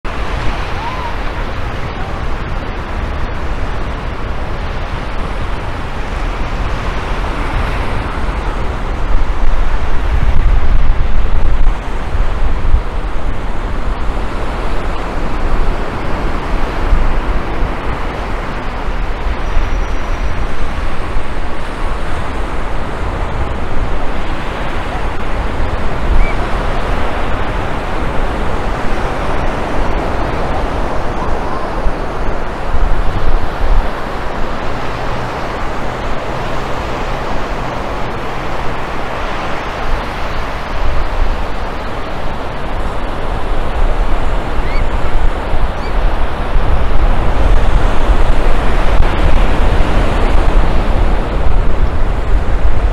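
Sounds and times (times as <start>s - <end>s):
surf washing on beach: 0.0s - 52.9s
wind buffeting microphone: 0.0s - 52.9s.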